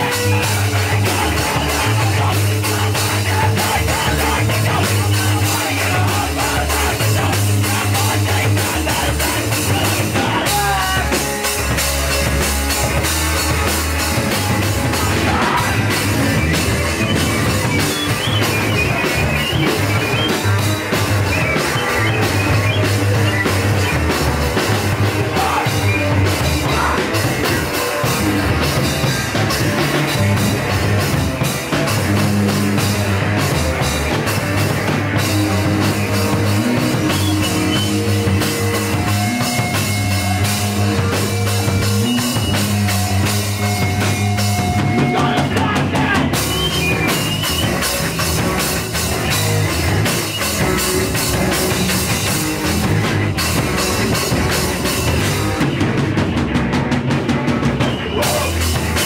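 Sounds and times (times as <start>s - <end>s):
drum kit: 0.0s - 59.0s
electric guitar: 0.0s - 59.0s
punk band playing live: 0.0s - 59.0s.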